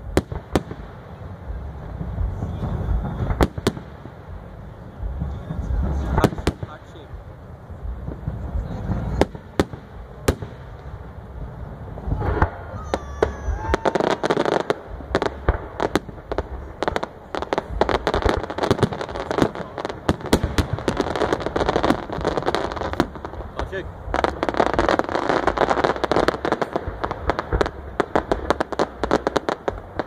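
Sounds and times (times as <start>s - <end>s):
rapid firework crackling: 0.0s - 30.0s.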